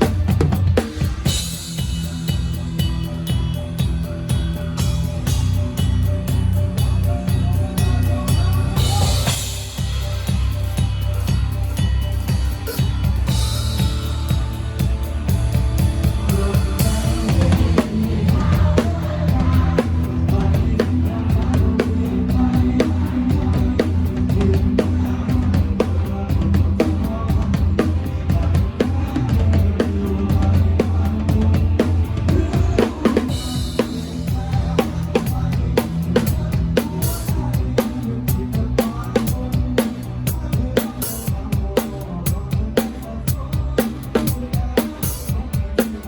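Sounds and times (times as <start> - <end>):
bass notes: 0.0 - 46.0.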